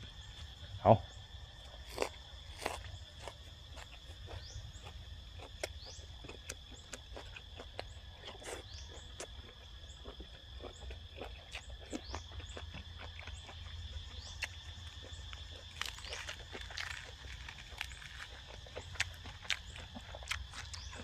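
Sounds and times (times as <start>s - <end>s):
high insect drone: 0.0s - 21.0s
person chewing and crunching: 1.6s - 21.0s.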